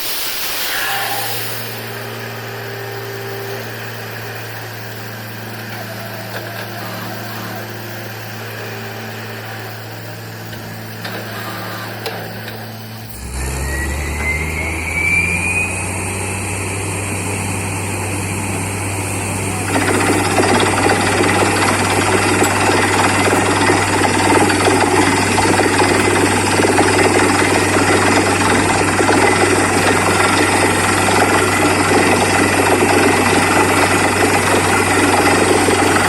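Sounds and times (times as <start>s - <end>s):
drilling rig engine running: 0.0s - 36.0s
loud noisy machine sound: 0.0s - 36.0s
rising whine: 0.0s - 36.0s.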